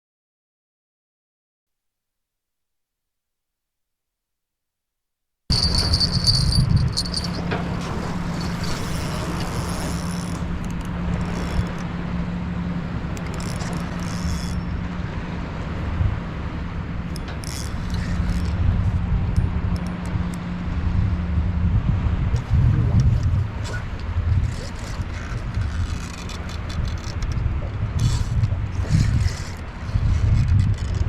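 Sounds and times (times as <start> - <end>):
low mechanical hum: 5.5 - 31.0
wind on microphone: 5.5 - 31.0.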